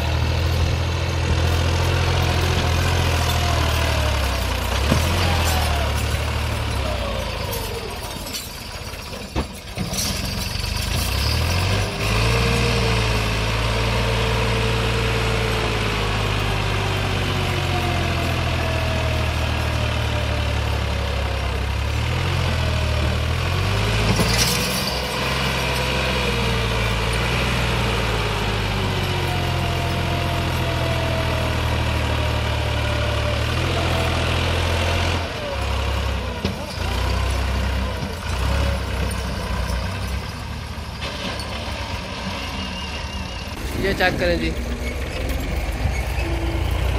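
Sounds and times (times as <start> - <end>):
tractor diesel engine working hard: 0.0 - 46.9.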